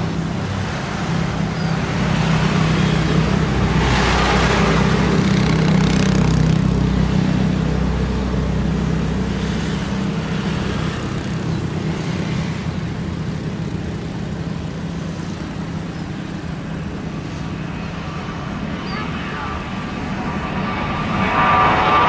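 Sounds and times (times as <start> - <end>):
jet engines at takeoff thrust: 0.0 - 22.0.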